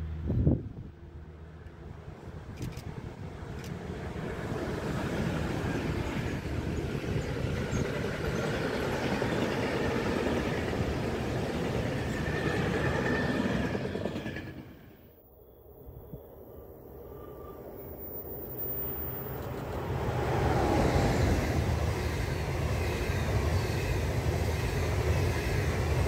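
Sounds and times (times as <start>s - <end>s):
freight train wheels rumbling on rails: 0.0s - 15.1s, 19.0s - 26.0s.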